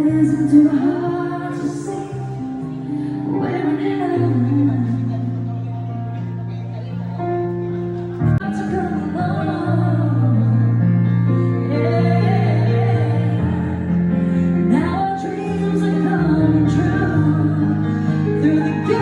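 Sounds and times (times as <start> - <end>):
person singing: 0.0 - 7.1, 8.3 - 19.0.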